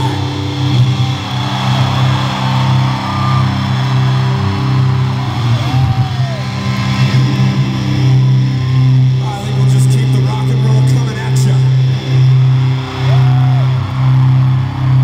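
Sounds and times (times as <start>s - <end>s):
crowd noise: 0.0s - 15.0s
distorted guitar and bass drone: 0.0s - 15.0s.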